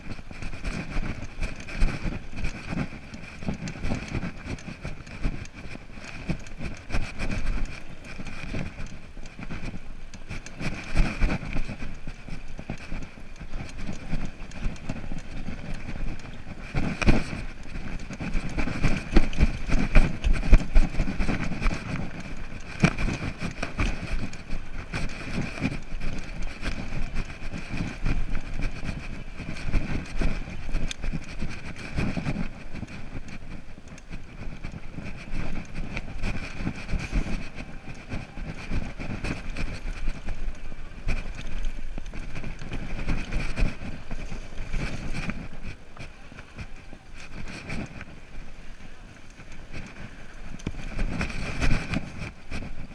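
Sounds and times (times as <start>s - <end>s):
bike rattling over bumps: 0.0s - 52.9s
wind on microphone: 0.0s - 52.9s.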